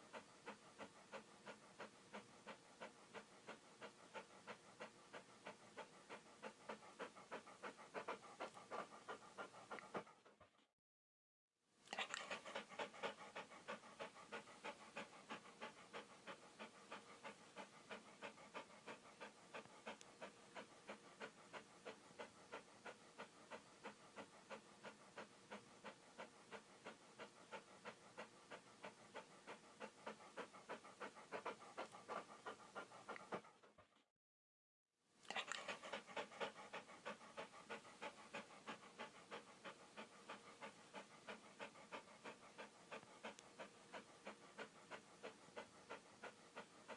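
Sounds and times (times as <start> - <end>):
dog panting: 0.0 - 10.7, 11.9 - 34.1, 35.2 - 46.9.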